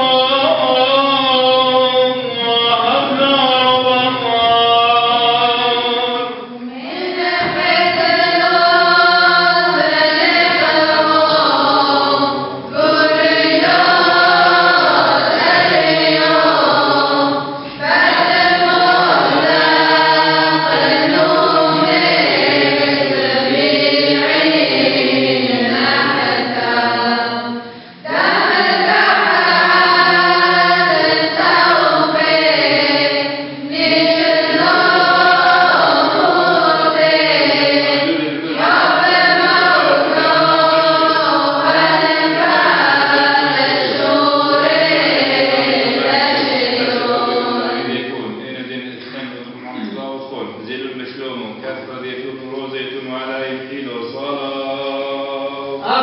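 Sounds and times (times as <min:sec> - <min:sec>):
choir chanting a hymn: 0:00.0 - 0:56.0.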